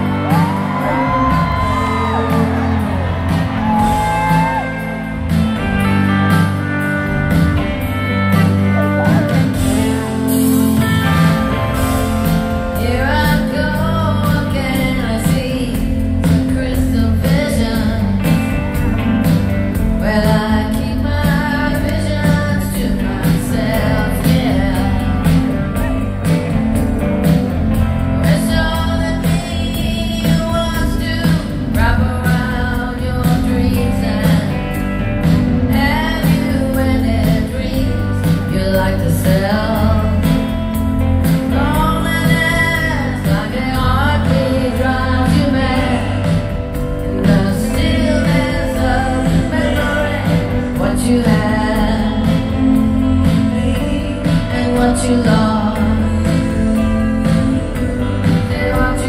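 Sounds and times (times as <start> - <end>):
bass guitar: 0.0 - 59.0
live rock band playing: 0.0 - 59.0
steady drum beat: 0.0 - 59.0
woman singing lead: 0.0 - 59.0.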